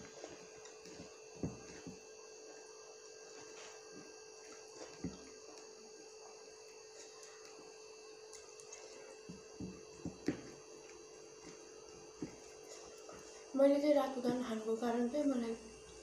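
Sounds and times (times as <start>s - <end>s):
fingers mixing rice on a plate: 0.0s - 2.6s, 3.2s - 13.5s
faint electrical hum: 0.0s - 16.0s.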